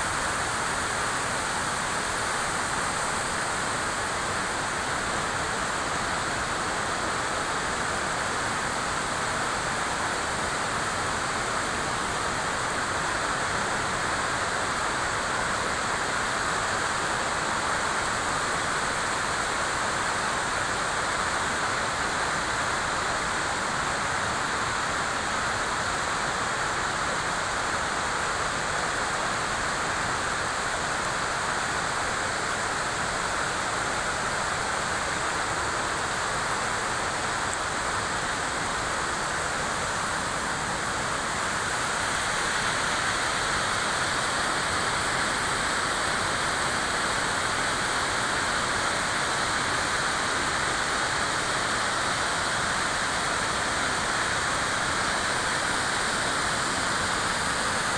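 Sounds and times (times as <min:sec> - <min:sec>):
river water rushing: 0:00.0 - 0:57.9.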